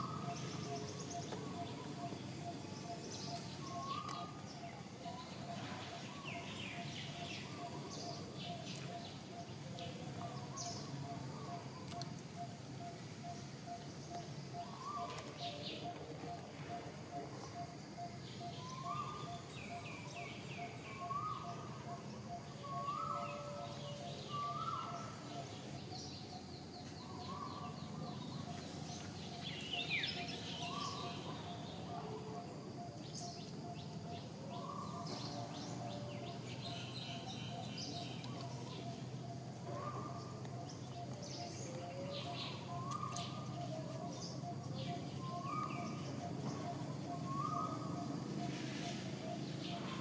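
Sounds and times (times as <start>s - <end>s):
birds chirping: 0.0s - 50.0s
low steady background noise: 0.0s - 50.0s.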